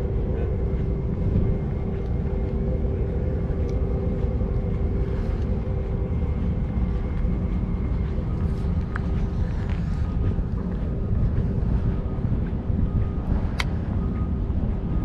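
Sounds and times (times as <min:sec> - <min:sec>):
steady hum: 0:00.0 - 0:15.0
wind rumbling on microphone: 0:00.0 - 0:15.0.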